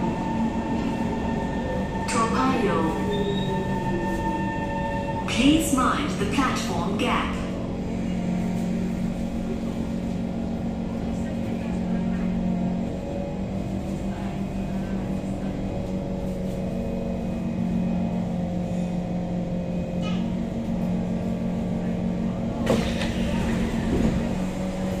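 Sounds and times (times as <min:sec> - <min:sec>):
low hum of standing train: 0:00.0 - 0:25.0.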